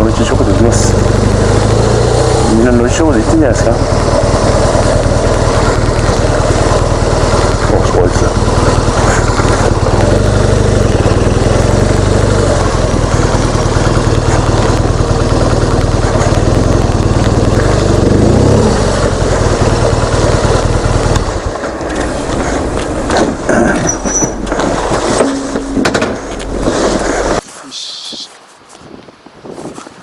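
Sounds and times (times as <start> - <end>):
motorcycle engine idling: 0.0 - 26.6.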